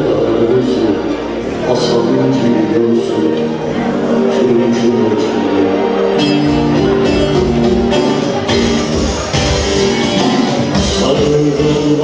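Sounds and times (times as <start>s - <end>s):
folk music beat: 1.0s - 12.0s
plucked lute melody: 1.0s - 12.0s.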